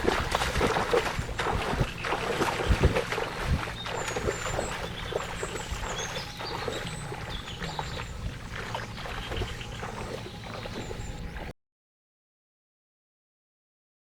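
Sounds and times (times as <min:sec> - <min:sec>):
birds chirping: 0:00.0 - 0:11.5
water splashing and sloshing: 0:00.0 - 0:11.5.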